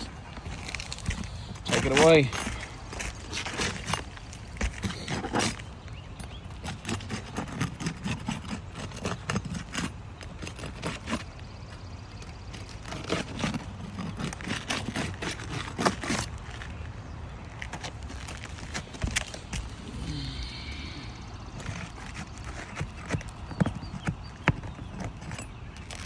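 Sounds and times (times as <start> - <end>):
feet shifting on roof: 0.0 - 26.0
tool tapping on roof shingles: 0.1 - 19.9, 21.5 - 26.0.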